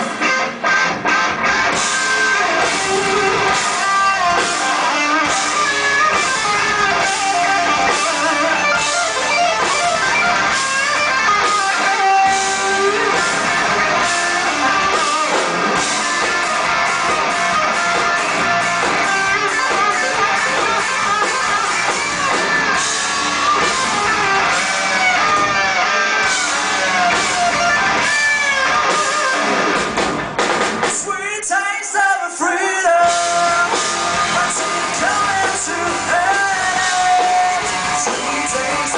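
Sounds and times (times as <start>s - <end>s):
bass guitar: 0.0s - 31.2s, 33.0s - 38.9s
distorted electric guitars: 0.0s - 31.4s, 32.5s - 38.9s
drum kit: 0.0s - 31.6s, 32.8s - 38.9s.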